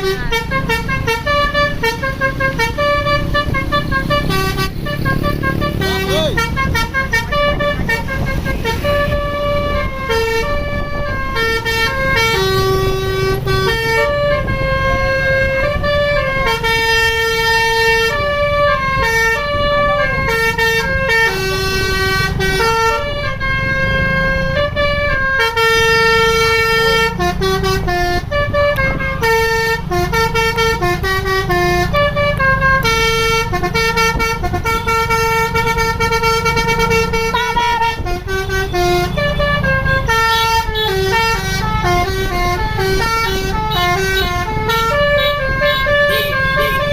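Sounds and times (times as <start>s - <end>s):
bus engine rumbling: 0.0s - 46.9s
musical air horn playing a tune: 0.0s - 46.9s.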